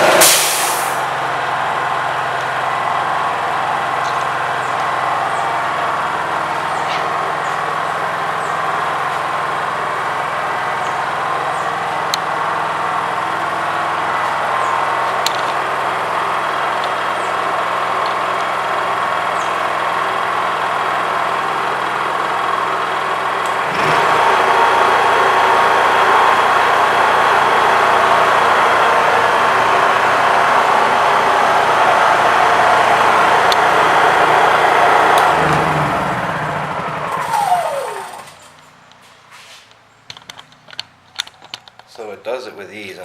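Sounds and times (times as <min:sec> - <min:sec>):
generator running: 0:00.0 - 0:42.1.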